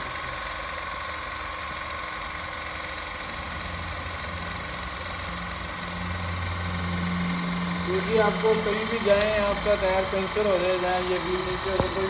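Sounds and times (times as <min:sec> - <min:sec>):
electric car jack motor whining: 0:00.0 - 0:12.0.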